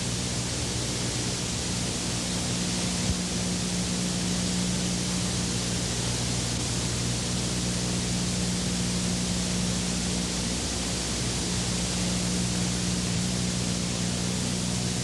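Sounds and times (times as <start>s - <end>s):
low electrical hum: 0.0s - 15.0s
tape hiss: 0.0s - 15.0s.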